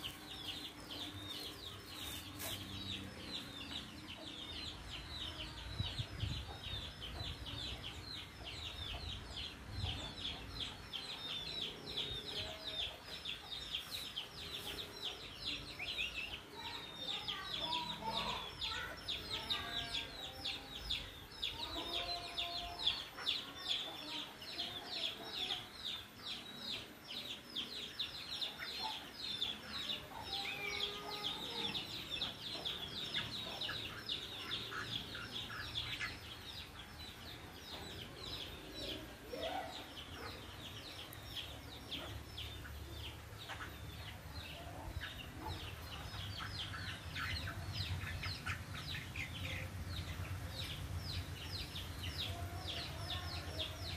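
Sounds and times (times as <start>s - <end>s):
birds chirping rapidly: 0.0s - 53.9s.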